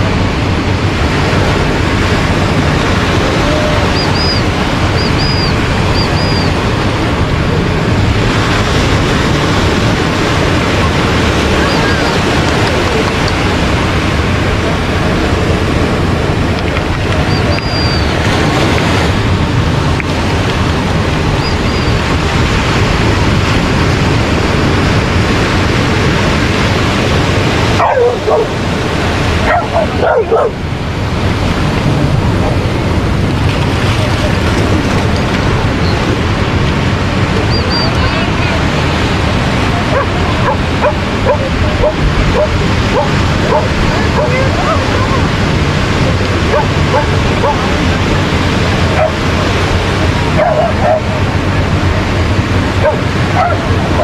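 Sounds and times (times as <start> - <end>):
ocean surf rushing: 0.0 - 54.0
wind buffeting microphone: 0.0 - 54.0.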